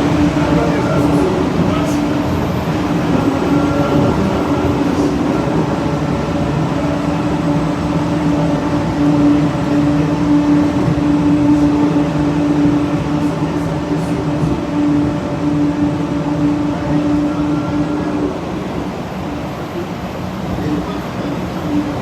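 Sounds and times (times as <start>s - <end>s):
tram rumbling: 0.0s - 22.0s.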